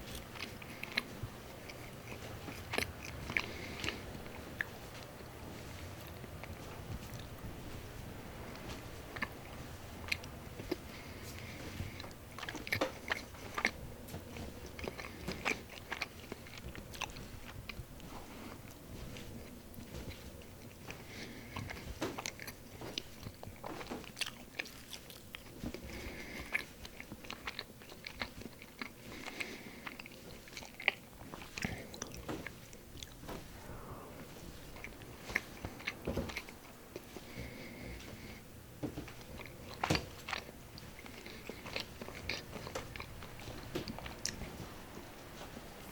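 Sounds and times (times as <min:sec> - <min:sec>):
bread crunching while chewed: 0:00.0 - 0:33.4, 0:34.8 - 0:45.9.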